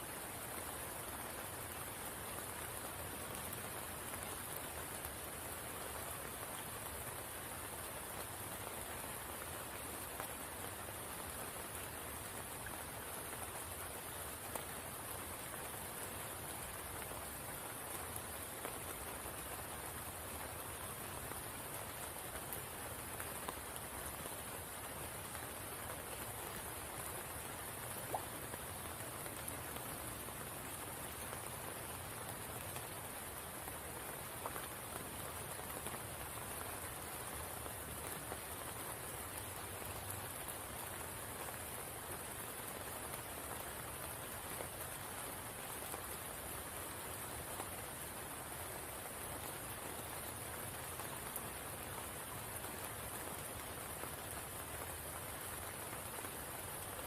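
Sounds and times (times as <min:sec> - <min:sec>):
rain on water and leaves: 0:00.0 - 0:57.0.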